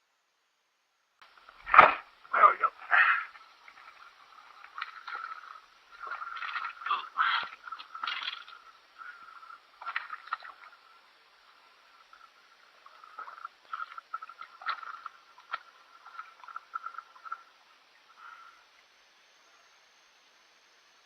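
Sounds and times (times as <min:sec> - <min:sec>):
frogs trilling: 0:01.2 - 0:21.0.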